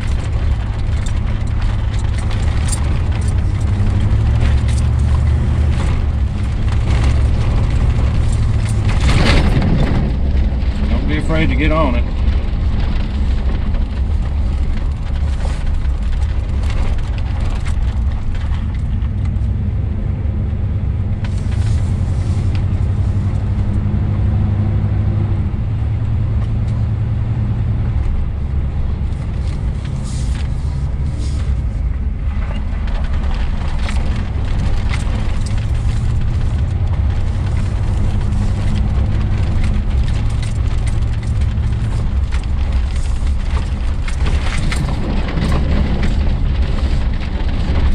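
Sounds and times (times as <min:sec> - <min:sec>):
engine and drivetrain drone: 0:00.0 - 0:47.9
tyre and road noise: 0:00.0 - 0:47.9.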